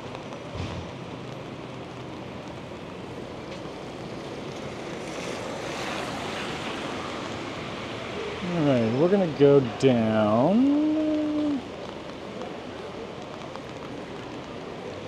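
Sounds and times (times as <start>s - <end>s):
rain hissing on wet street: 0.0s - 15.0s.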